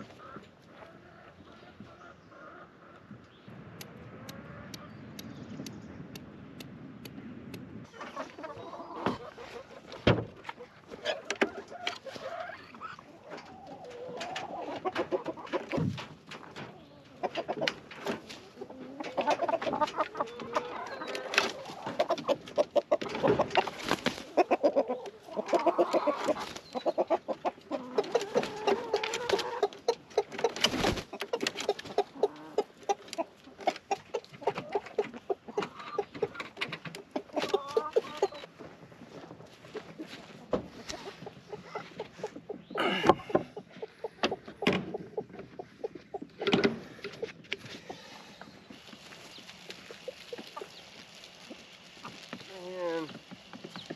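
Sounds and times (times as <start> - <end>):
chickens clucking: 0.0 - 6.2, 7.0 - 53.9.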